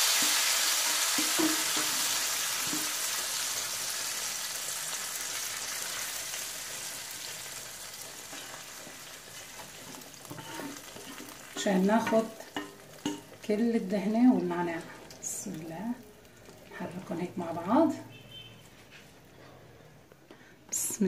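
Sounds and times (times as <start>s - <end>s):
hot fat sizzling: 0.0s - 18.4s.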